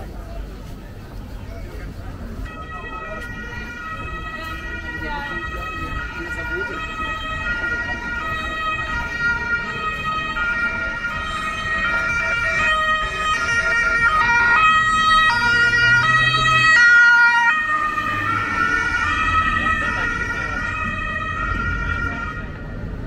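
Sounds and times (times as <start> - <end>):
emergency vehicle siren: 0.0 - 23.0
street traffic: 0.0 - 23.0.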